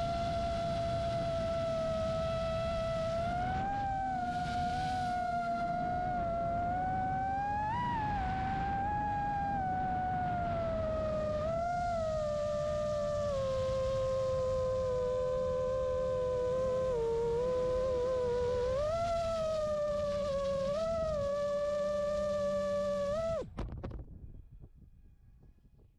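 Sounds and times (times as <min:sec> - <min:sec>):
drone motors whining: 0:00.0 - 0:23.4
wind rumbling on microphone: 0:00.0 - 0:25.9.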